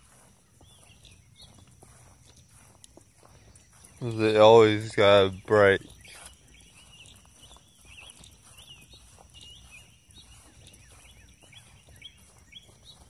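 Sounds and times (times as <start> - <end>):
birds chirping: 0.0 - 13.0
soft footsteps: 0.0 - 13.0.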